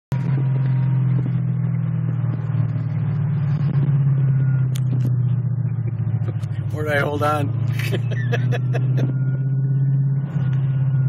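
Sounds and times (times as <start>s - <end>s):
car engine rumbling from inside cabin: 0.1s - 11.0s.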